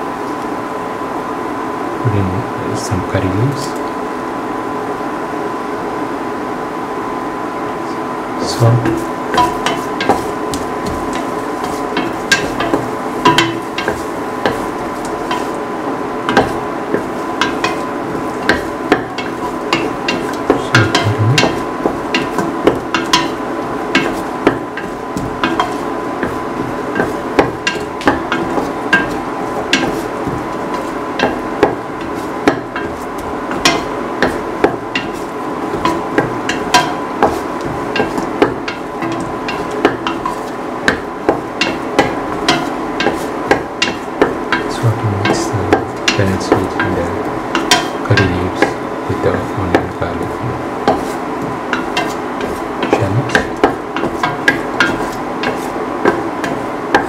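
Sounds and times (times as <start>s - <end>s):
frying hiss: 7.8s - 57.0s.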